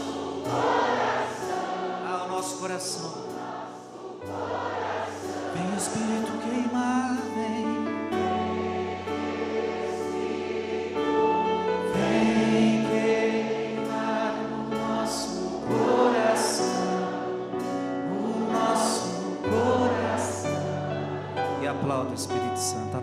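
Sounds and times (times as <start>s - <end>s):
choir singing over held chords: 0.0s - 23.0s.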